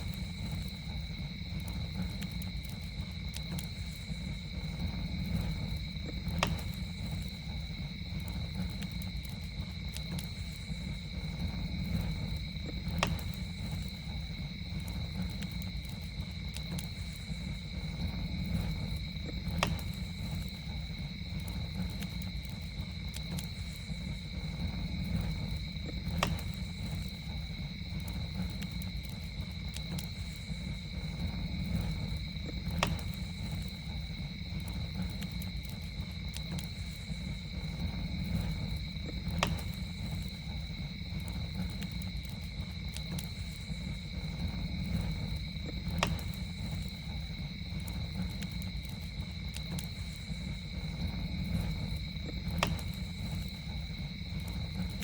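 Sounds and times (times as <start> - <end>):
campfire rumbling and popping: 0.0 - 55.0
crickets droning: 0.0 - 55.0.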